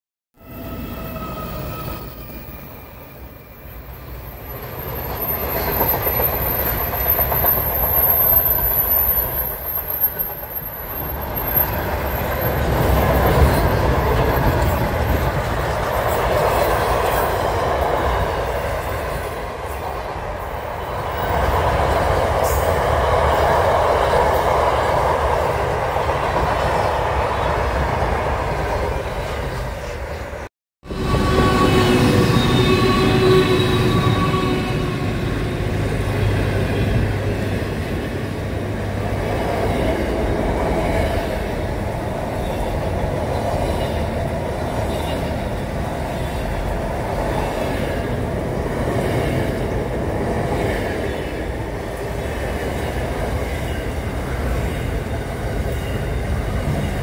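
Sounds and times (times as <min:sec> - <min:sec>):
train wheels rumbling on rails: 0:00.9 - 0:57.0.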